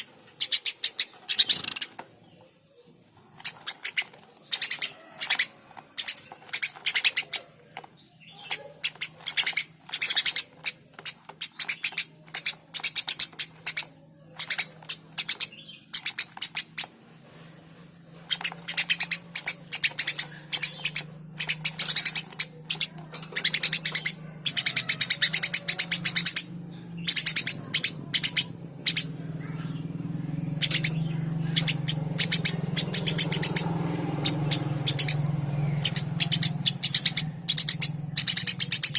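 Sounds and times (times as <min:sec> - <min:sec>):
sparrow chirping: 0:00.0 - 0:38.9.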